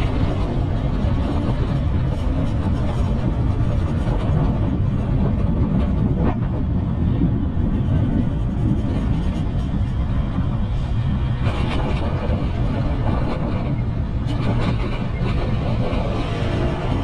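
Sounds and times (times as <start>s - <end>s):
wind rush on microphone: 0.0s - 17.0s.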